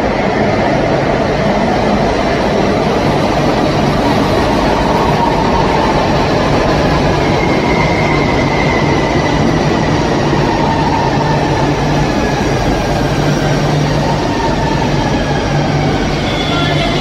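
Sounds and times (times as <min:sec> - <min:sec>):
train rumbling through station: 0:00.0 - 0:17.0.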